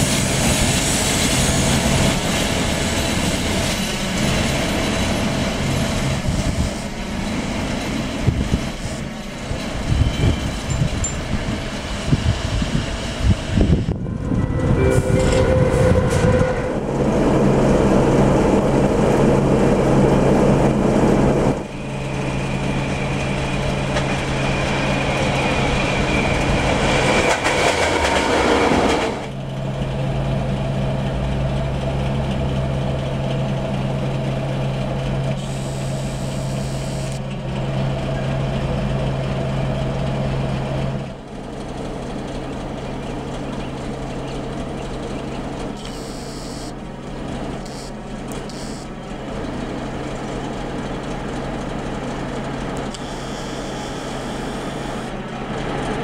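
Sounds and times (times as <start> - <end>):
diesel locomotive engine hum: 0.0 - 56.0.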